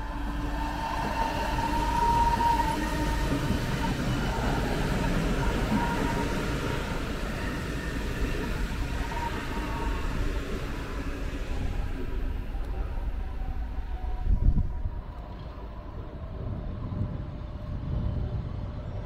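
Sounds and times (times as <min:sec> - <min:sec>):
high whine of train: 0:00.0 - 0:19.0
train wheels rumbling on rails: 0:00.0 - 0:19.0.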